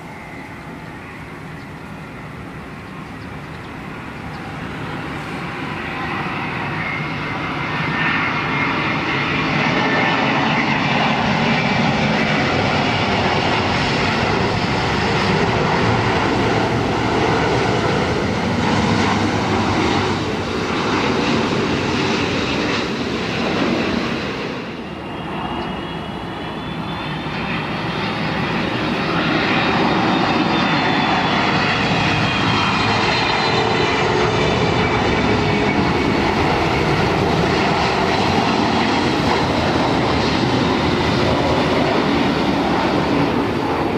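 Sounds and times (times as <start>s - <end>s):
high engine whine: 0.0s - 43.9s
jet engines running: 0.0s - 43.9s.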